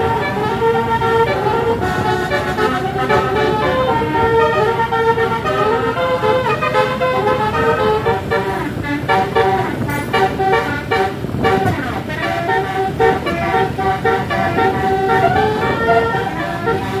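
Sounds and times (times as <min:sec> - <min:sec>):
bus horn playing a melody: 0:00.0 - 0:17.0
engine and road rumble: 0:00.0 - 0:17.0.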